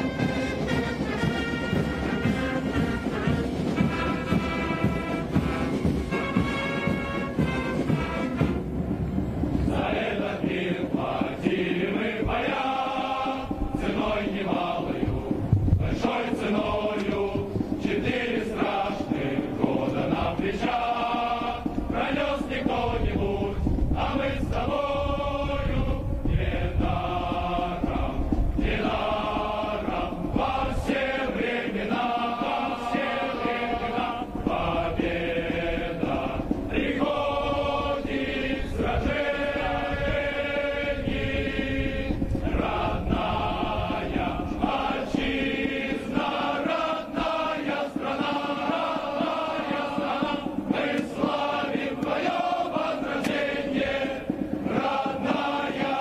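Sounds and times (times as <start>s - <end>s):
male chorus singing: 0.0s - 8.6s, 9.6s - 56.0s.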